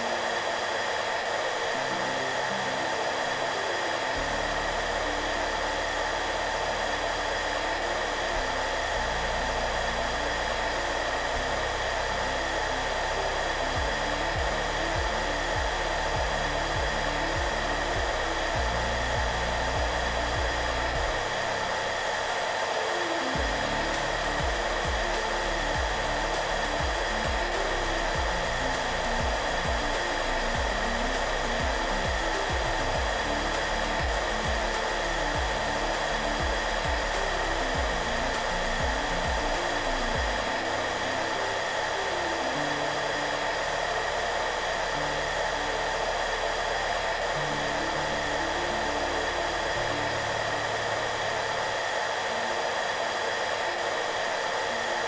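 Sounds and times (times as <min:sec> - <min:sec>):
hair dryer blowing: 0:00.0 - 0:55.0
soft music of low held notes: 0:00.0 - 0:55.0.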